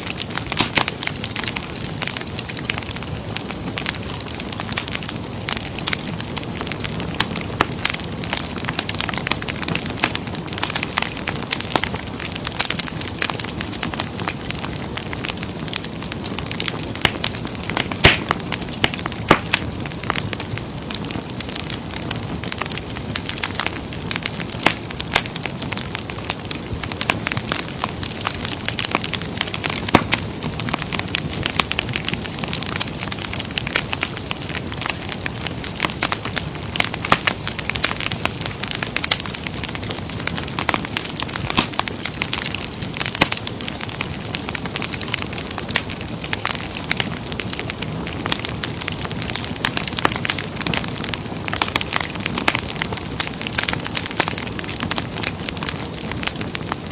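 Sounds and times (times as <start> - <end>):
fire pops and snaps: 0.0 - 56.9
low rush of flame: 0.0 - 56.9.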